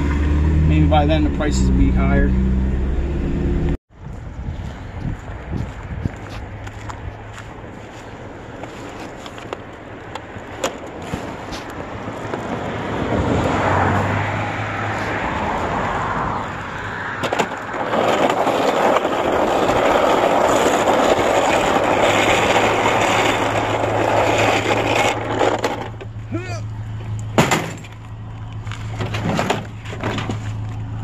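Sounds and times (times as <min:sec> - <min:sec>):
plastic wheels rolling on asphalt: 0:04.0 - 0:31.0.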